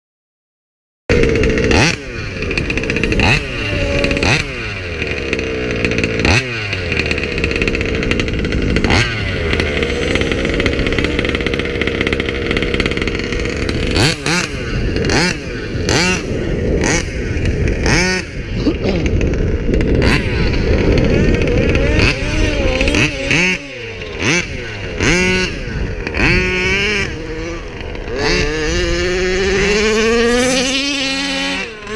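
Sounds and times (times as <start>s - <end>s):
small two-stroke engine revving: 1.1s - 31.9s.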